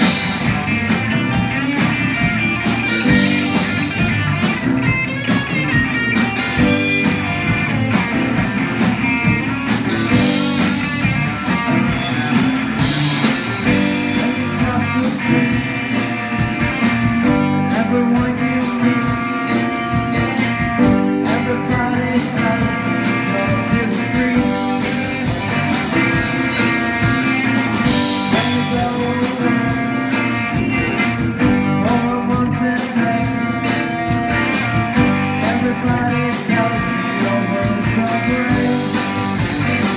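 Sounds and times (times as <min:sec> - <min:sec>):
drums: 0:00.0 - 0:39.9
electric guitar: 0:00.0 - 0:39.9
keyboards: 0:00.0 - 0:39.9.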